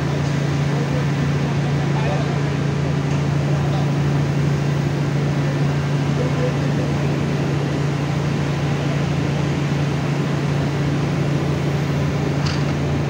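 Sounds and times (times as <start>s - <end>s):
industrial machinery drone: 0.0s - 13.0s.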